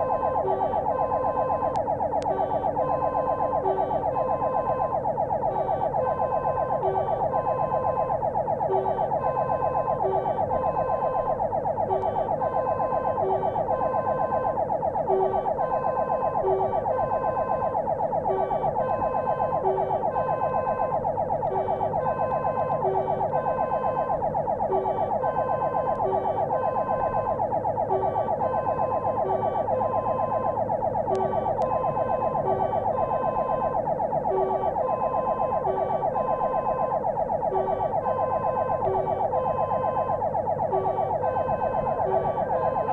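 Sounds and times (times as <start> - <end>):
fire engine siren warbling: 0.0 - 42.9
two-tone siren pattern: 0.0 - 42.9.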